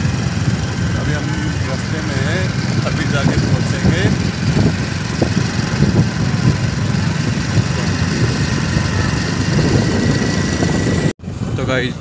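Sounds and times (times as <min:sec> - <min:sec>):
motorcycle engine running: 0:00.0 - 0:11.5
wind buffeting microphone: 0:00.0 - 0:12.0.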